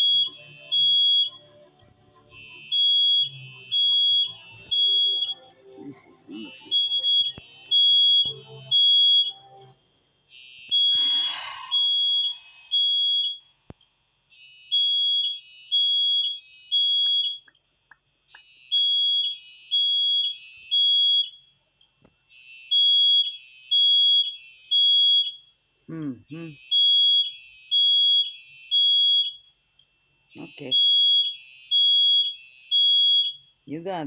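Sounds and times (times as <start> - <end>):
fire alarm beeping: 0.0 - 9.7, 10.3 - 13.6, 14.3 - 17.5, 18.4 - 21.6, 22.3 - 25.6, 26.4 - 33.6.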